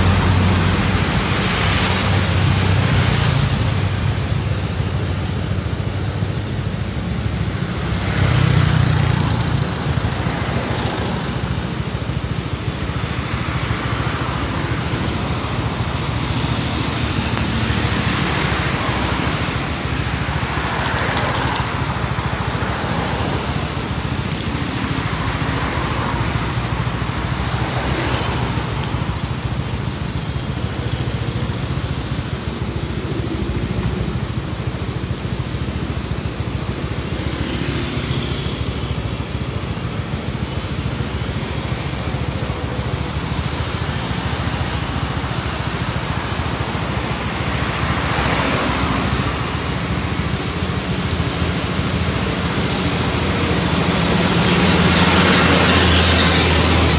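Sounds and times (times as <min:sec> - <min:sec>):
road traffic rumble: 0:00.0 - 0:56.9.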